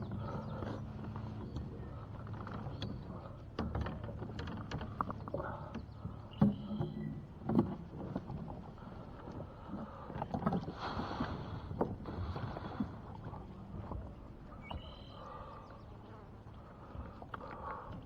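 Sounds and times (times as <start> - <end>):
water lapping against kayak hull: 0.0 - 18.0.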